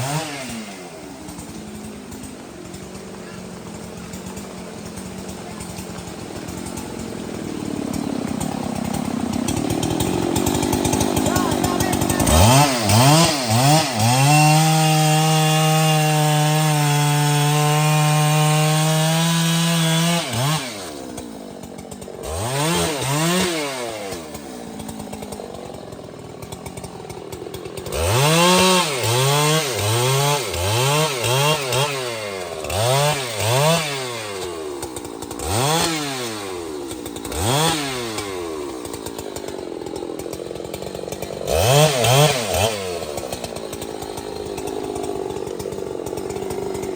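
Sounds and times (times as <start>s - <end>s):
chainsaw revving: 0.0s - 46.9s.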